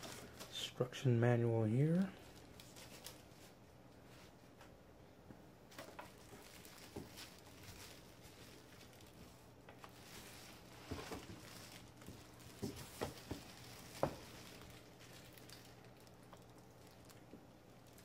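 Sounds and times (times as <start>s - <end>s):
plastic bag crinkling: 0.0s - 0.7s, 1.8s - 3.6s, 5.7s - 18.0s.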